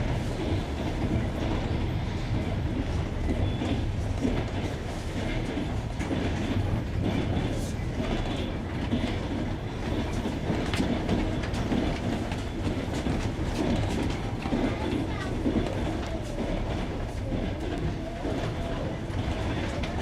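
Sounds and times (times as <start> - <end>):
train rolling rumble: 0.0 - 20.0
train wheels clicking over rail joints: 0.5 - 20.0.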